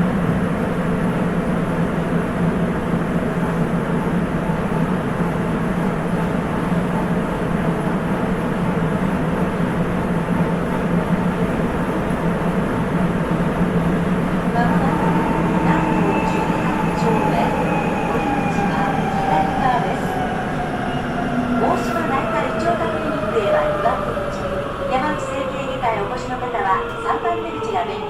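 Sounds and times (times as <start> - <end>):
subway car hum and rumble: 0.0 - 28.0.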